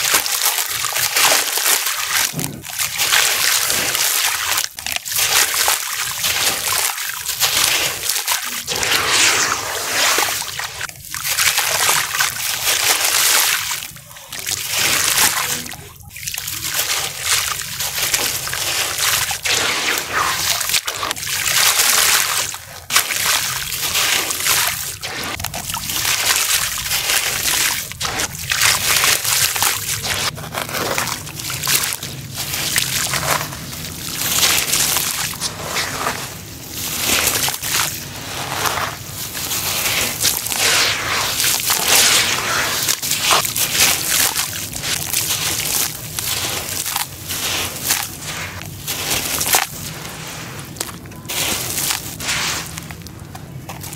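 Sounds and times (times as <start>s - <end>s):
dirt splashing into water: 0.0s - 53.9s
water sloshing: 0.0s - 53.9s.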